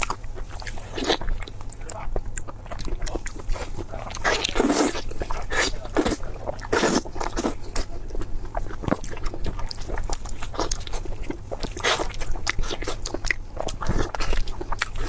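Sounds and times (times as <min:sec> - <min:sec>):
wet chewing and crunching: 0:00.0 - 0:15.0.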